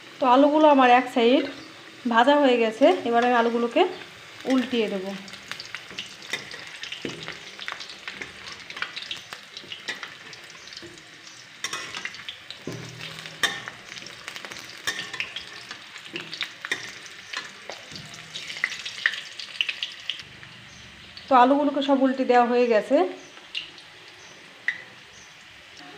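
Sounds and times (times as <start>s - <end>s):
potatoes sizzling in hot oil: 0.0s - 25.9s.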